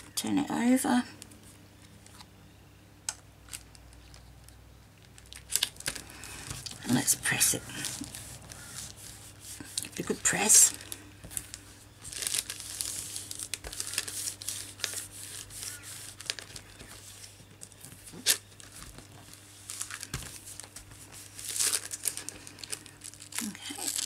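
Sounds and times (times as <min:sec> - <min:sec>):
paper rustling and crinkling: 0:03.5 - 0:24.0.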